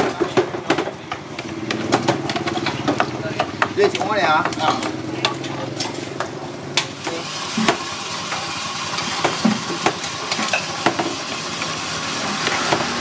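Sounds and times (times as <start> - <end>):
metal ladles clinking against bowls: 0.0 - 11.8.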